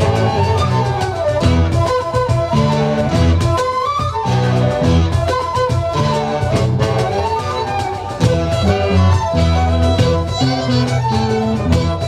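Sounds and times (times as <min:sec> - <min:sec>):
bass line: 0:00.0 - 0:12.0
fiddles and flutes playing melody: 0:00.0 - 0:12.0.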